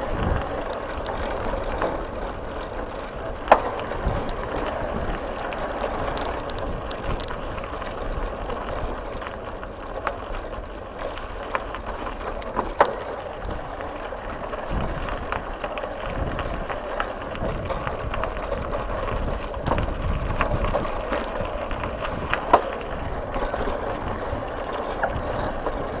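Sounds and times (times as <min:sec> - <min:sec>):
bicycle tyres rolling on gravel: 0:00.0 - 0:26.0.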